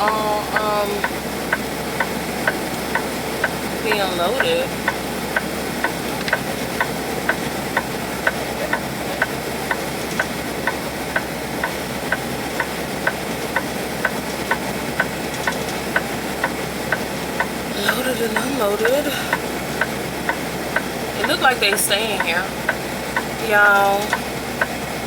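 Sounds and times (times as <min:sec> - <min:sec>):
truck engine running: 0:00.0 - 0:25.0
turn signal ticking: 0:00.0 - 0:25.0.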